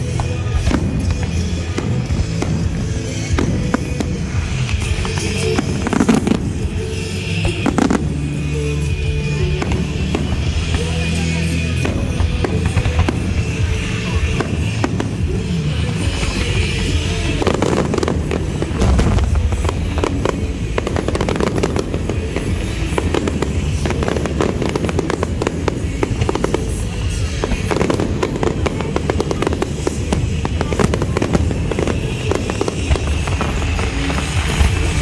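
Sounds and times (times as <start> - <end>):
fireworks cracks and bangs: 0.0 - 35.0.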